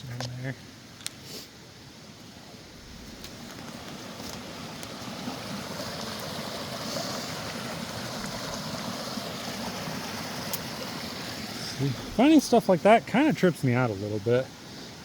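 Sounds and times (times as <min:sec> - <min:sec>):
creek water rushing: 0:00.6 - 0:15.0.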